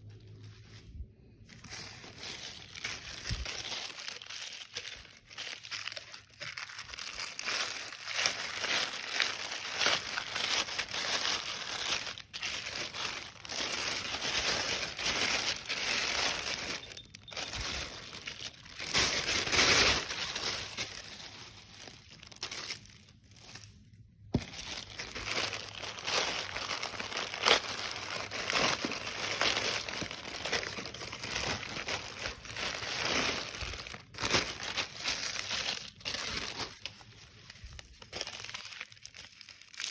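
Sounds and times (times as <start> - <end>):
packaging crinkling: 0.0 - 39.9.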